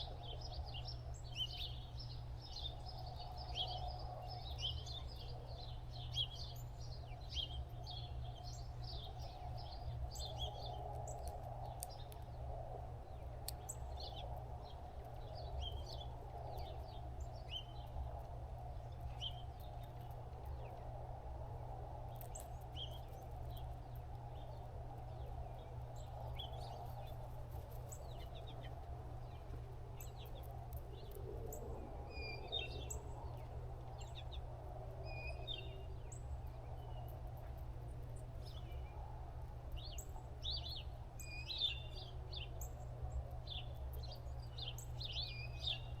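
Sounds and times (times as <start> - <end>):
small birds chirping: 0.0 - 46.0
steady low hum: 0.0 - 46.0.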